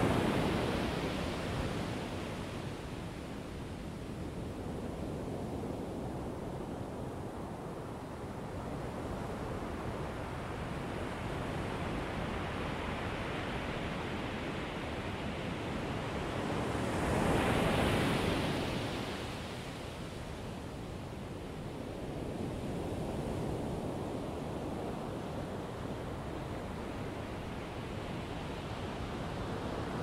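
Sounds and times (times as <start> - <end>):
ocean surf washing on beach: 0.0 - 30.0.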